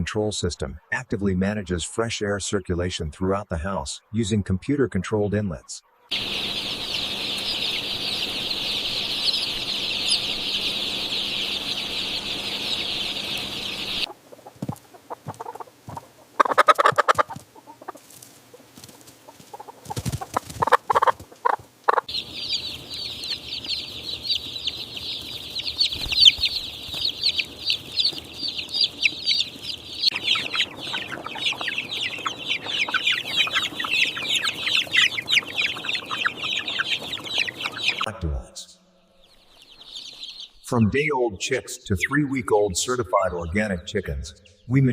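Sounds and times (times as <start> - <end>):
chicks peeping: 2.6 - 40.8.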